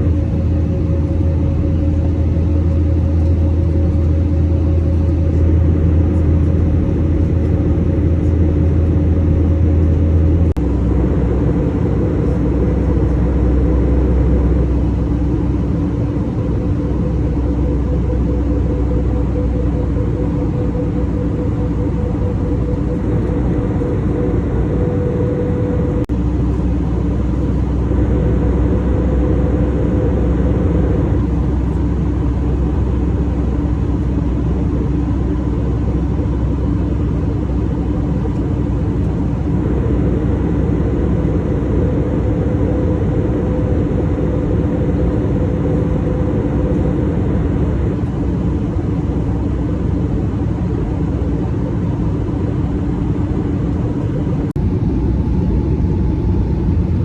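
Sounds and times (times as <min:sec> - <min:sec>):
jet engine cabin roar: 0:00.0 - 0:57.0
steady hum tones: 0:00.0 - 0:57.0.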